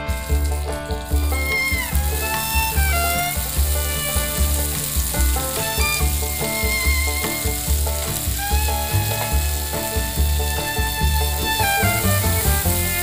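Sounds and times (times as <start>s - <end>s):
background music with beat: 0.0s - 13.0s
wooden spatula tossing food: 0.0s - 13.0s
vegetables sizzling in oil: 0.2s - 13.0s.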